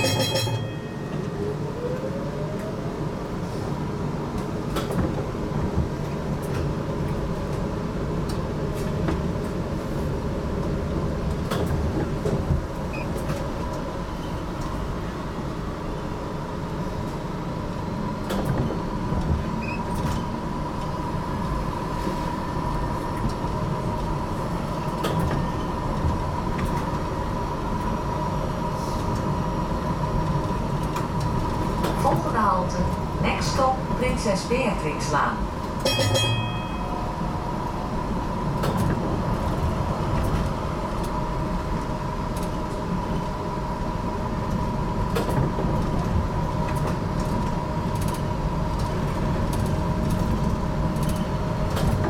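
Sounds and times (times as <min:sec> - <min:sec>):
tram whine: 0:00.0 - 0:52.0
wheels rumbling on rails: 0:00.0 - 0:52.0.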